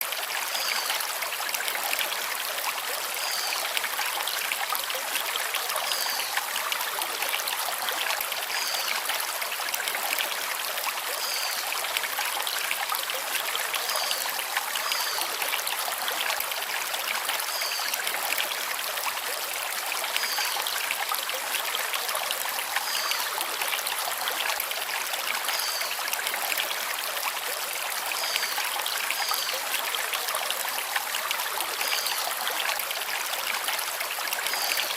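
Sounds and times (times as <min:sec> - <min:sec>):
stream flowing over stones: 0:00.0 - 0:34.9.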